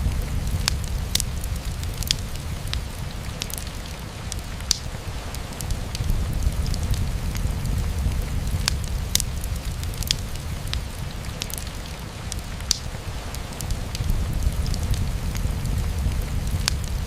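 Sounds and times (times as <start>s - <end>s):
rain against a window: 0.0s - 17.0s
wood fire crackling: 0.0s - 17.0s.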